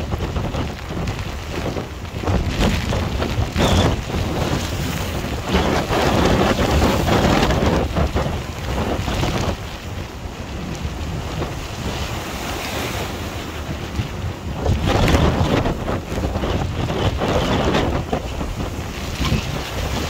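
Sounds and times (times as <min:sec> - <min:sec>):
waves breaking on rocks: 0:00.0 - 0:20.0
wind buffeting microphone: 0:00.0 - 0:20.0.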